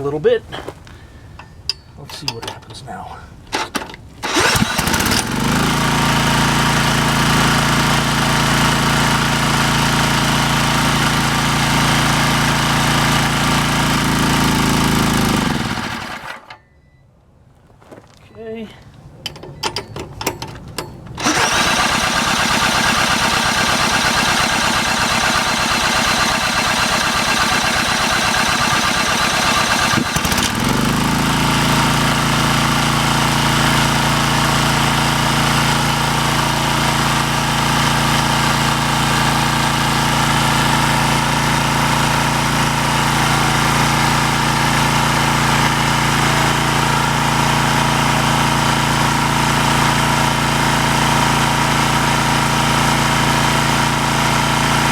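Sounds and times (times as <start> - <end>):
small gasoline engine running: 3.6 - 16.6, 21.2 - 54.9.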